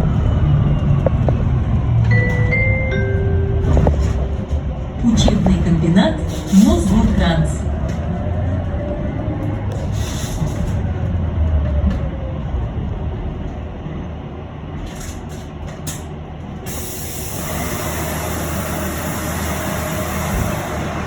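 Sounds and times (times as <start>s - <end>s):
bus running rumble: 0.0s - 21.0s.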